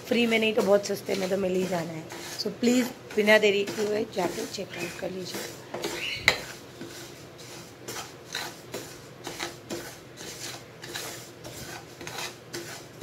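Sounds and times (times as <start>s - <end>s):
spatula scraping grains in pan: 0.0s - 13.0s.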